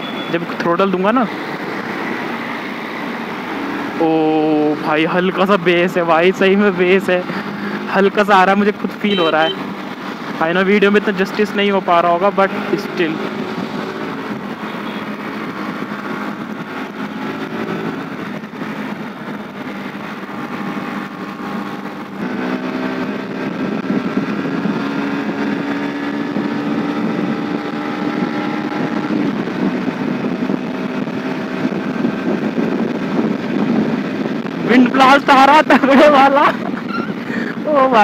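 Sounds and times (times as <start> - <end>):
motorcycle engine accelerating: 1.0 - 38.0.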